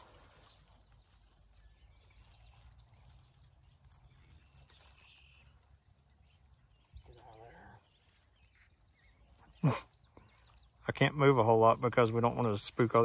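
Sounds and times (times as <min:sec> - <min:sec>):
faint bird chirps: 0:00.0 - 0:12.6.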